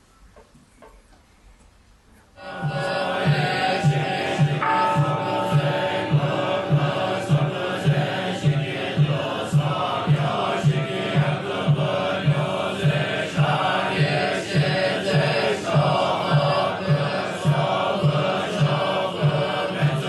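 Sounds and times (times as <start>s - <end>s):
group chanting in unison: 2.4s - 20.0s.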